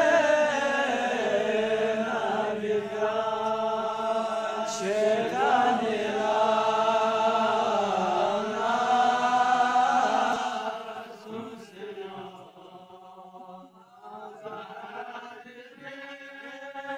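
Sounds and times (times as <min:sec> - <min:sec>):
person chanting: 0:00.0 - 0:16.9.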